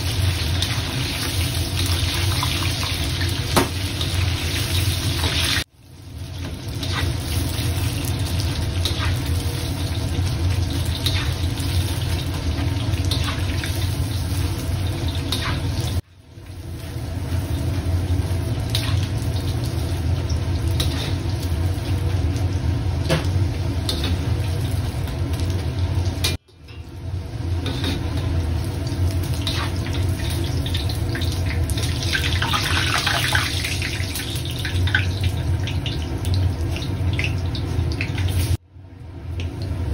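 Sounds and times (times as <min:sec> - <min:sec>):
chicken deep-frying in oil: 0:00.0 - 0:39.9.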